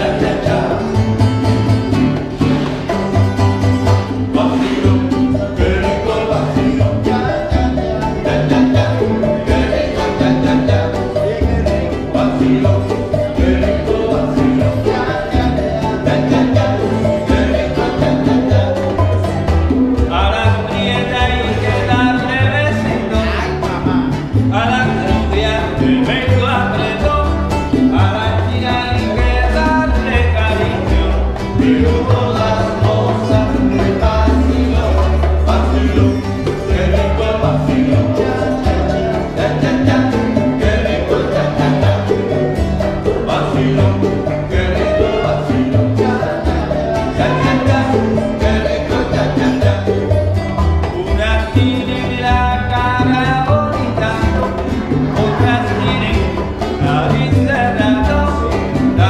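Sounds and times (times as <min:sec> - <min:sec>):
person singing: 0:00.0 - 0:02.1, 0:04.2 - 0:59.0
bongos: 0:00.0 - 0:59.0
strummed and plucked guitars: 0:00.0 - 0:59.0
upright bass: 0:00.0 - 0:59.0.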